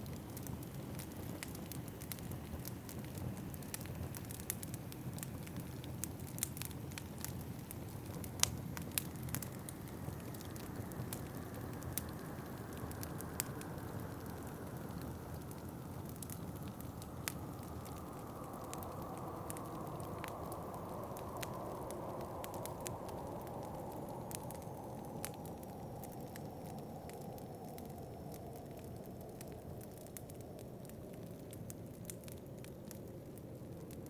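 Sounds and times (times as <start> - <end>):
wind blowing outside: 0.0 - 34.0
wood fire crackling: 0.0 - 34.0.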